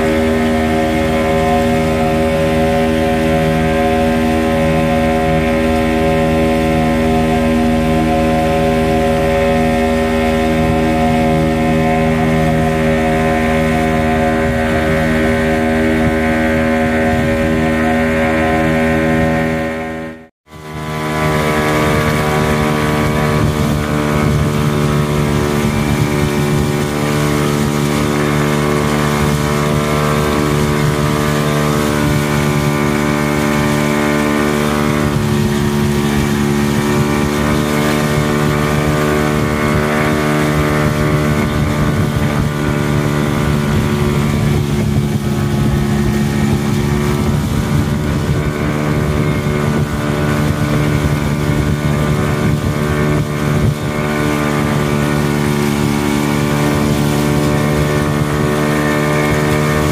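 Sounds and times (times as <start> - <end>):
speedboat engine droning: 0.0 - 59.9.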